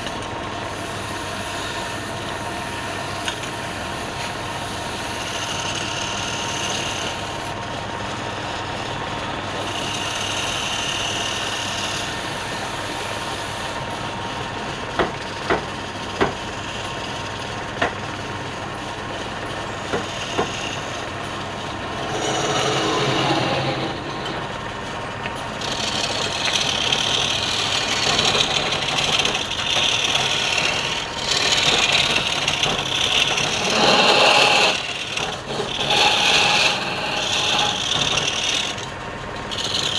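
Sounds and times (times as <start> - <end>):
turning tool cutting wood: 0.0 - 7.6, 9.5 - 13.9, 18.9 - 39.9
wood lathe running: 0.0 - 17.9, 18.5 - 39.9.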